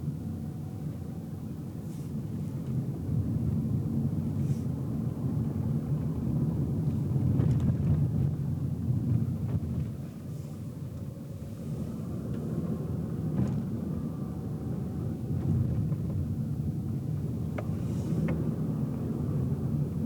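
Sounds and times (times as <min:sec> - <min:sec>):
car engine rumble: 0:00.0 - 0:20.0
tyre road noise: 0:00.0 - 0:20.0.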